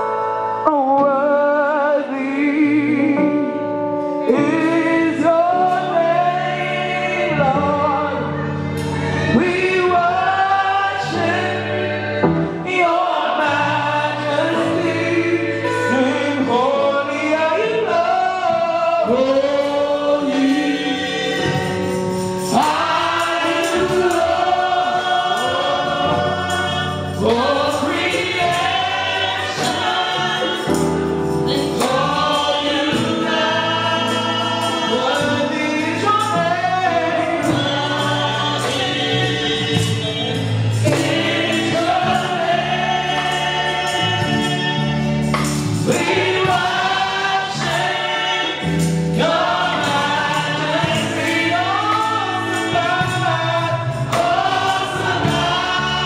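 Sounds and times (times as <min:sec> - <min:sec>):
instrumental accompaniment: 0:00.0 - 0:56.0
woman singing into microphone: 0:00.6 - 0:03.6, 0:04.2 - 0:56.0
backing singers: 0:04.2 - 0:56.0.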